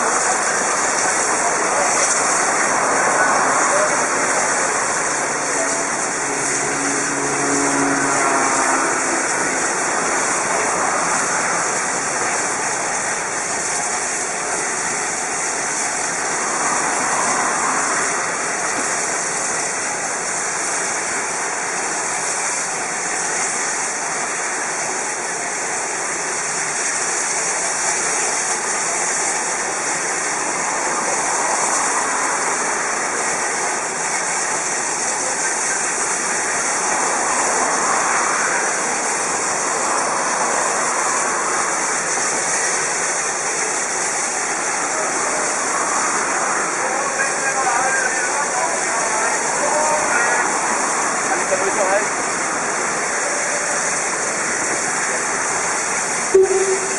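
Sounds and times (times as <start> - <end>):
steam hissing from locomotive: 0.0 - 56.9.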